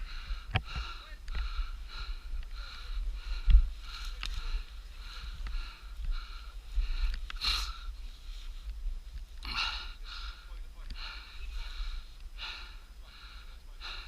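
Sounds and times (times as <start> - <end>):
person breathing hard: 0.0 - 8.7, 9.4 - 14.0.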